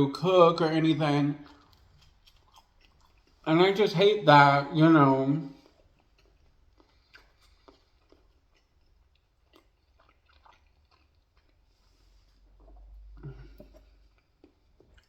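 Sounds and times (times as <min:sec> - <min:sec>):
chewing with mouth clicks: 0:00.1 - 0:15.0.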